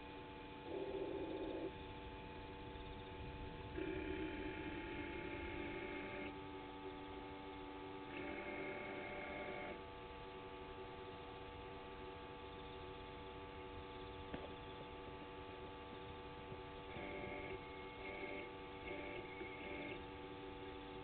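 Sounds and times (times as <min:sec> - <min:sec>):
faint electrical hum: 0:00.0 - 0:21.0
high whine: 0:00.0 - 0:21.0.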